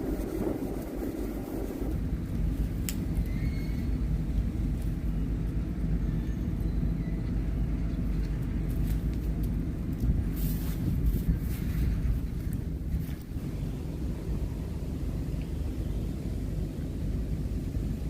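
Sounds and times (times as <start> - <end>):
boat engine droning: 0.0 - 10.3, 11.4 - 18.0.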